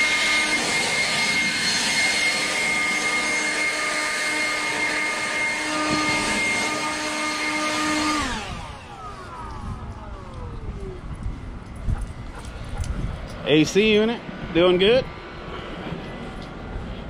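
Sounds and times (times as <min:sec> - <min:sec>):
fan spinning down: 0:00.0 - 0:17.0
leaf blower running: 0:00.0 - 0:17.0.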